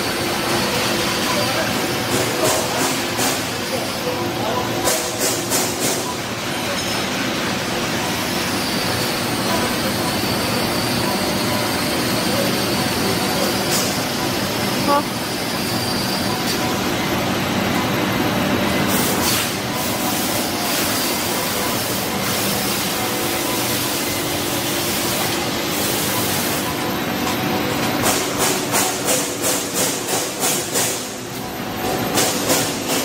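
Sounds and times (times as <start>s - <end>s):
machinery humming with hiss: 0.0s - 33.0s.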